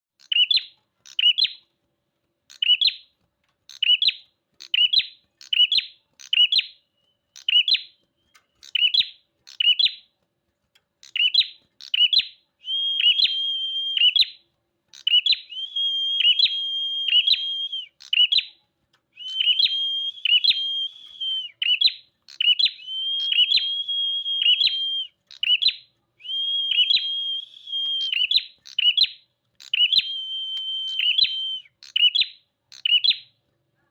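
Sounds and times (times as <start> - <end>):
bird chirping and trilling: 0.2 - 1.6, 2.5 - 3.1, 3.7 - 10.1, 11.0 - 18.6, 19.2 - 33.4.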